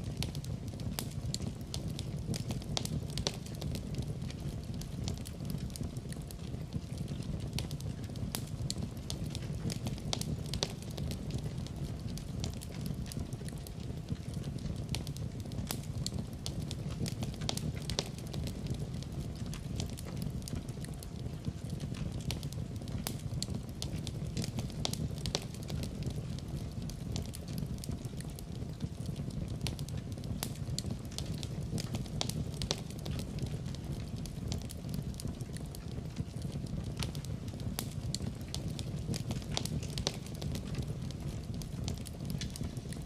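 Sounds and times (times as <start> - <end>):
low rumble of burning fire: 0.0 - 43.0
wood fire snaps and pops: 0.0 - 43.0.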